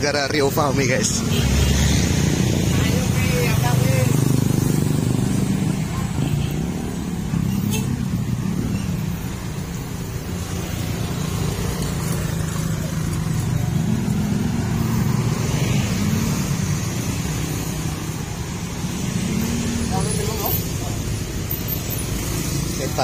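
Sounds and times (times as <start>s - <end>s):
minibus engine passing: 0.0s - 23.0s
motorcycle engines passing: 0.0s - 23.0s.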